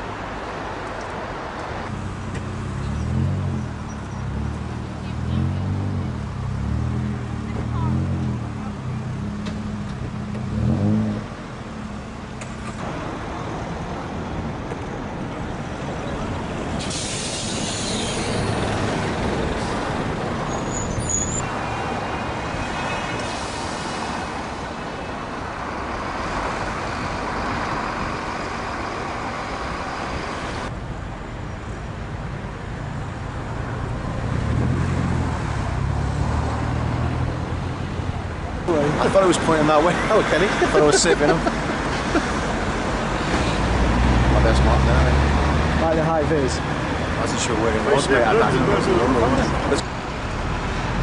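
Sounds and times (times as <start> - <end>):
road traffic passing: 0.0 - 51.0.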